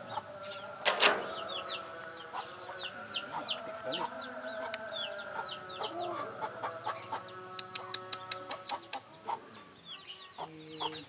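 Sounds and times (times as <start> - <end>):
chicks peeping: 0.0 - 11.0
hen clucking: 1.3 - 11.0.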